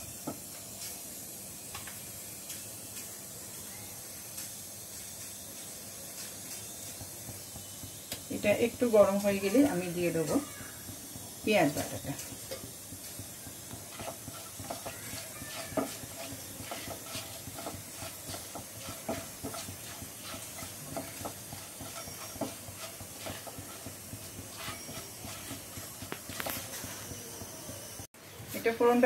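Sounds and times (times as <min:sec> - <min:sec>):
oil popping and crackling: 0:00.0 - 0:29.0
spices sizzling in hot oil: 0:00.0 - 0:29.0.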